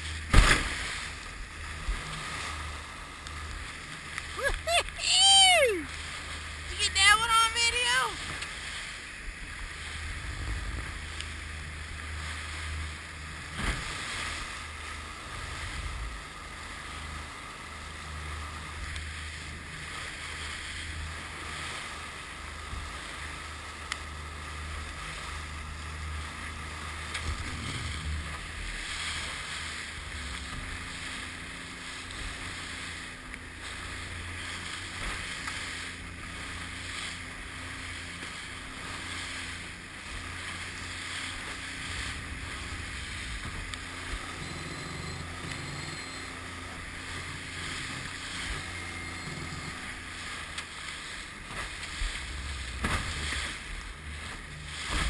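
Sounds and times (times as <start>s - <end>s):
spray and rushing water: 0.0s - 7.0s, 7.7s - 55.0s
higher engine tone: 0.0s - 55.0s
outboard motor droning: 0.0s - 55.0s.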